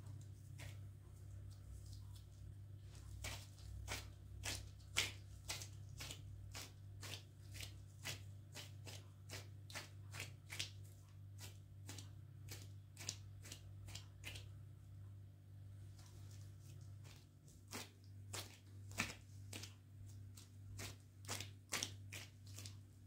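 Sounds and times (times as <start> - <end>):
soft rhythmic swishing strokes: 0.0 - 23.0
steady low hum: 0.0 - 23.0.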